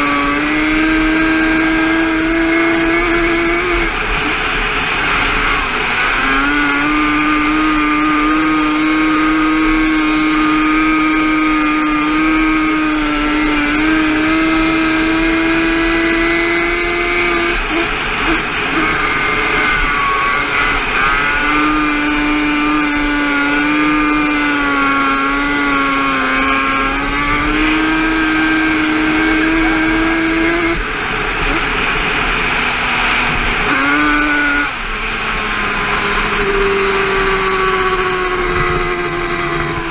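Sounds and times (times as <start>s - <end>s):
racing quad engine revving: 0.0s - 39.9s.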